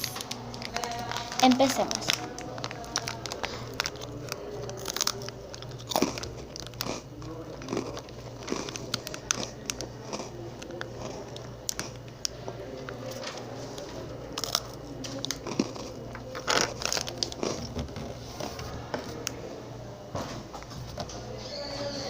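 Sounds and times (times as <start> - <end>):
cookies being chewed: 0.0 - 19.4.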